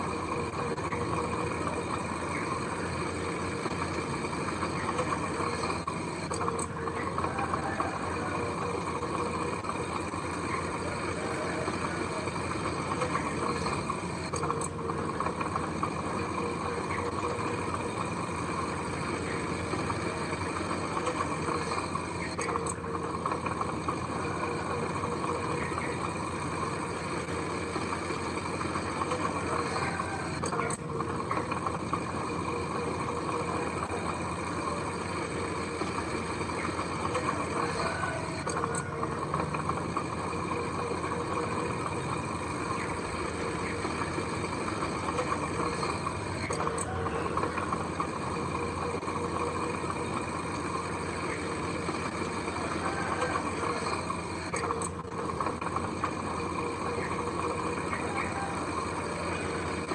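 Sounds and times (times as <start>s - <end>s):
heavy diesel engine running: 0.0s - 59.9s
faint clicks: 0.1s - 59.9s.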